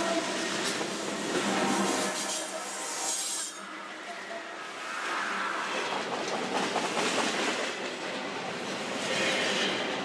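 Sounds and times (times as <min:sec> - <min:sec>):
freight train passing: 0:00.0 - 0:10.0.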